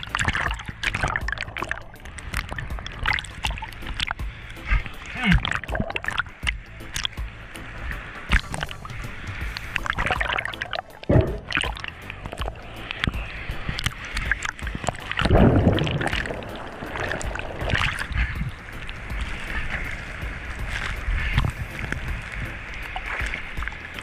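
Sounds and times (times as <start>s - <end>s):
sea water sloshing and splashing: 0.0s - 24.0s.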